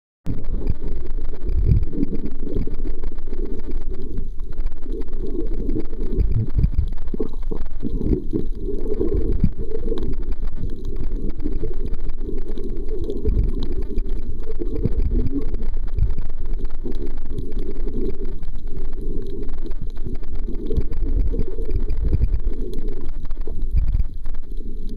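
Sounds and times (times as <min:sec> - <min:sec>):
muffled underwater noise: 0:00.3 - 0:24.9.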